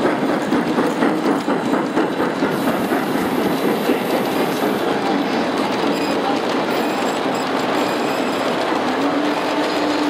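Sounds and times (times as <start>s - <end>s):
model train wheels clicking on track: 0.0s - 10.0s.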